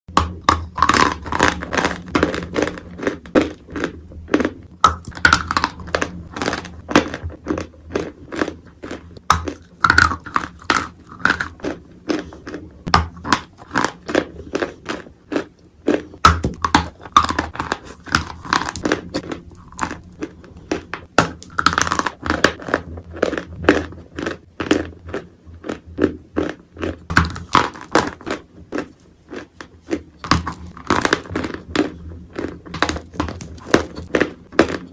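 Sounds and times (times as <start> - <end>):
crunching and chewing clay: 0.1 - 34.9.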